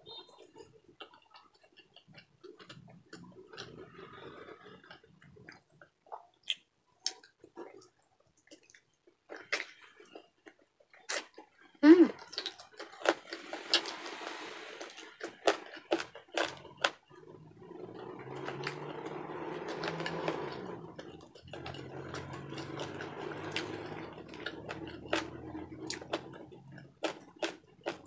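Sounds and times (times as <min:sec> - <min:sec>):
wet chewing: 0:00.4 - 0:14.2, 0:14.8 - 0:28.0.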